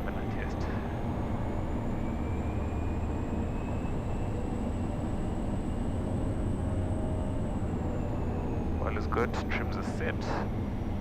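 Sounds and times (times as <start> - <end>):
turboprop engine running: 0.0 - 11.0.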